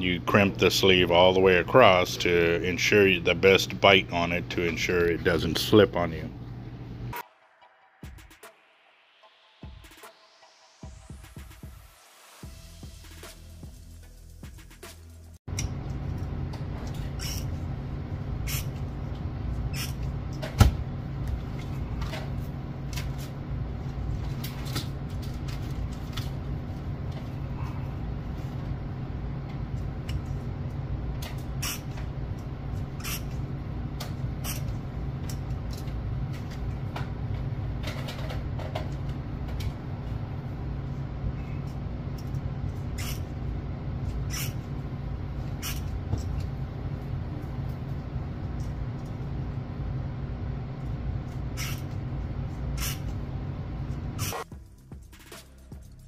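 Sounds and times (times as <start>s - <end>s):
steady low hum: 0.0s - 7.2s, 12.4s - 56.0s.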